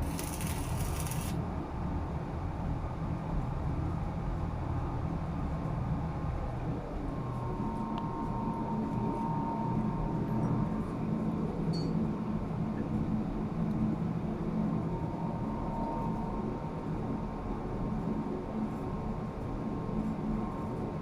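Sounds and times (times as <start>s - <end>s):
machinery drone with high whine: 0.0s - 21.0s.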